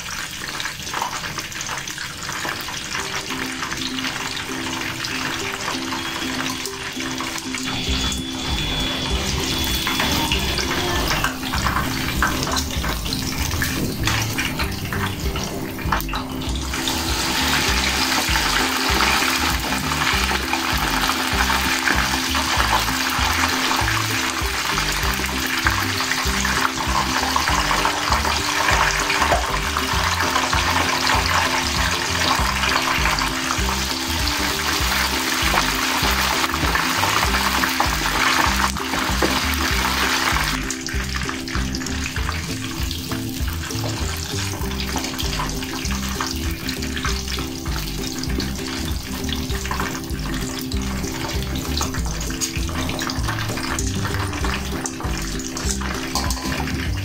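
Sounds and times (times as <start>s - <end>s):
meat deep-frying in oil: 0.0s - 57.0s
background music: 0.2s - 57.0s.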